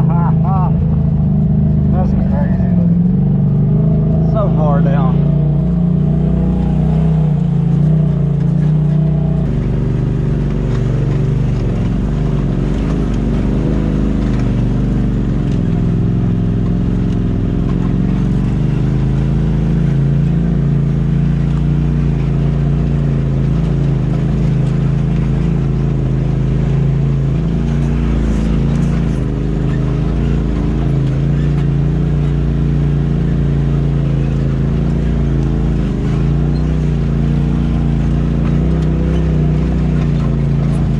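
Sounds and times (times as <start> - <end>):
off-road vehicle engine at low revs: 0.0 - 40.9.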